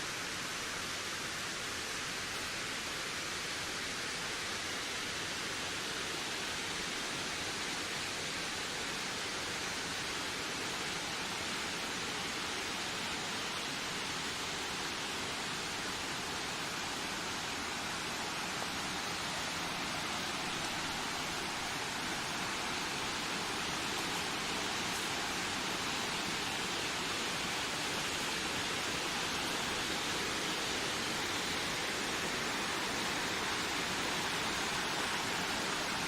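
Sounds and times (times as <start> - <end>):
steady rushing wind: 0.0 - 36.0.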